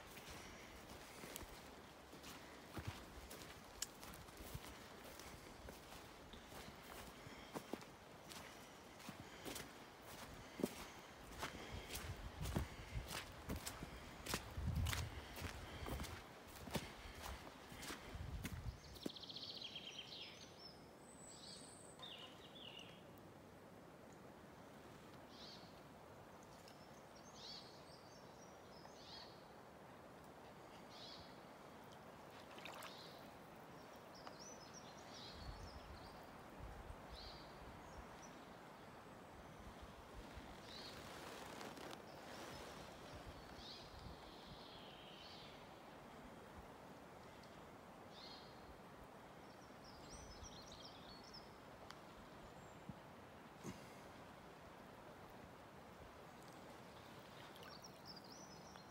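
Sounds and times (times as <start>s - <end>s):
faint songbird chirping: 0.0s - 23.2s, 24.1s - 46.2s, 47.2s - 54.4s, 56.1s - 58.9s.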